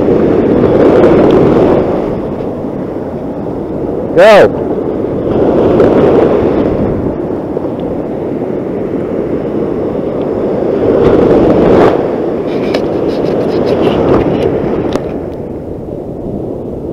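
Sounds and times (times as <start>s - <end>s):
surf washing on beach: 0.0s - 16.9s.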